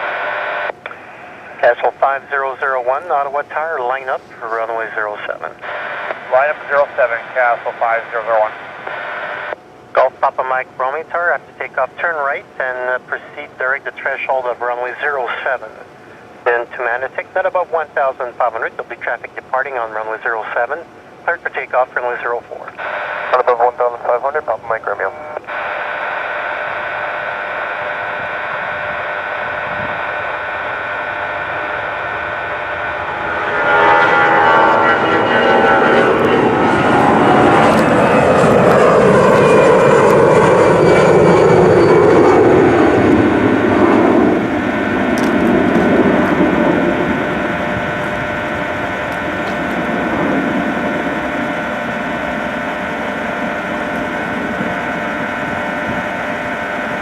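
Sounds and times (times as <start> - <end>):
jet engines on takeoff: 0.0 - 57.0.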